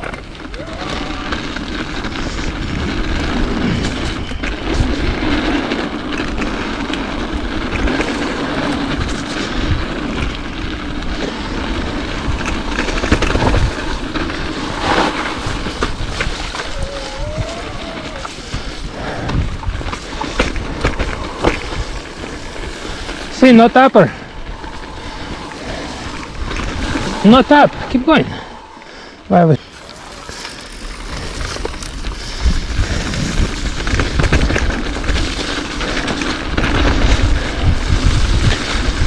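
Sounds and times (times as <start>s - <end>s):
bike knocking and rattling: 0.0s - 28.6s, 29.4s - 39.0s
knobby tyres humming on dirt: 0.0s - 39.0s
wind buffeting microphone: 0.0s - 39.0s.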